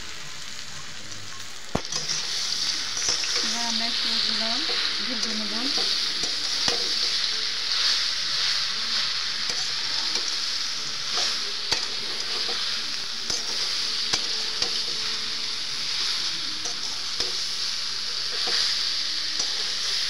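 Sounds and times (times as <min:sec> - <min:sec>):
frying in hot oil: 0:00.0 - 0:20.0.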